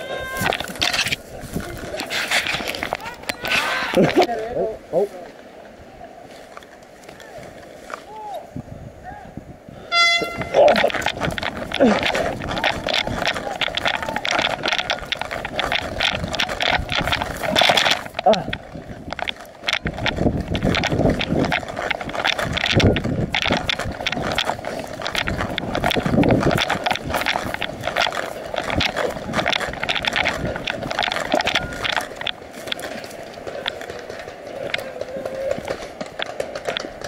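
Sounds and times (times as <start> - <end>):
gear and clothing rustling: 0.0 - 5.2, 9.9 - 37.0
running footsteps on forest ground: 0.0 - 5.4, 9.8 - 37.0.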